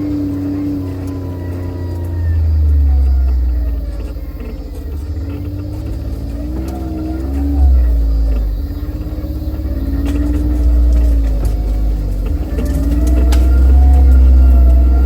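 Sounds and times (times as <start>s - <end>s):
sharp ticks: 0.0s - 15.0s
vehicle engine running: 0.0s - 15.0s.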